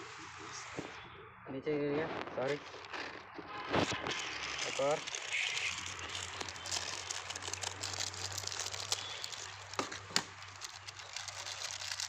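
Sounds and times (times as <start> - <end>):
plastic snack packet crinkling: 2.2 - 12.0.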